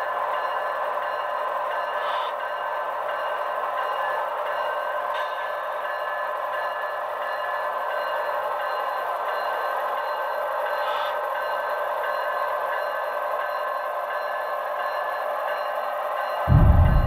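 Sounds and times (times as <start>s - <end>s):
model locomotive running on track: 0.0s - 16.4s.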